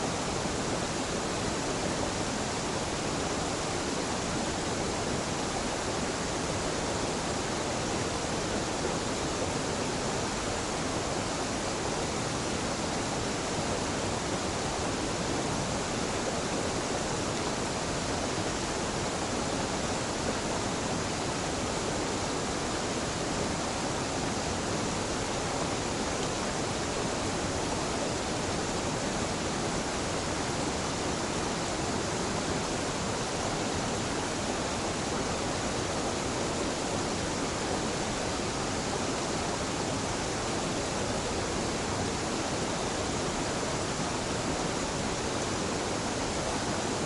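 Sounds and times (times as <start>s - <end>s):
waterfall pouring and splashing: 0.0s - 47.0s.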